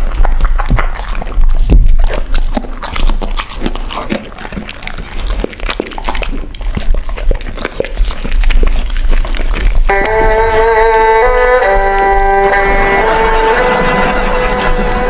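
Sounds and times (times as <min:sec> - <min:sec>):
wet smacking and lapping: 0:00.0 - 0:13.6
dogs licking and chewing: 0:00.0 - 0:15.0
tongue and teeth clicks: 0:00.0 - 0:15.0.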